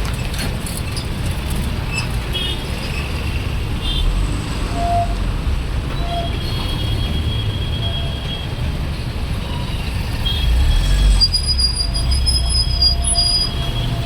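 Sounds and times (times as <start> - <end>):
road traffic rumbling: 0.0 - 14.0.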